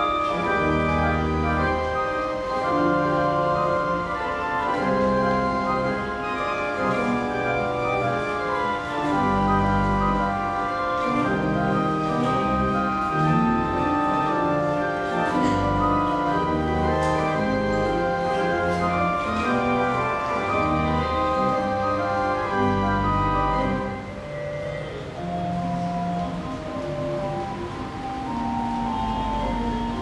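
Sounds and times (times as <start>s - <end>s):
pipe organ playing chords: 0.0s - 30.0s.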